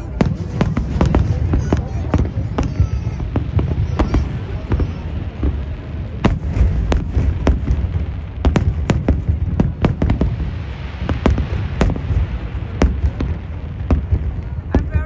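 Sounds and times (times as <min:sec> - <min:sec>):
fireworks bangs and cracks: 0:00.0 - 0:15.0
low rumble of bursts: 0:00.0 - 0:15.0.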